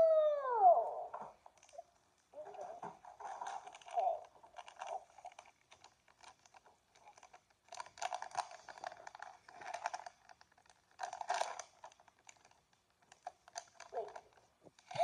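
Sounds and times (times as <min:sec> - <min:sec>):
plastic bag crinkling and tearing: 0:01.6 - 0:15.0.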